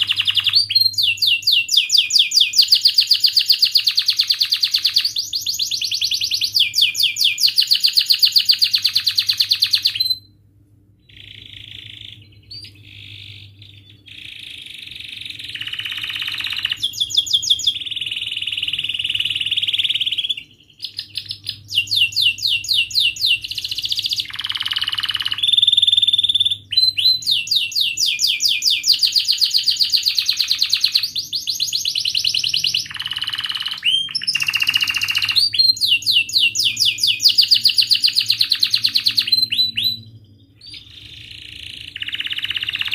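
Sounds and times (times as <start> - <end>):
canary singing: 0.0 - 10.4, 11.0 - 42.9.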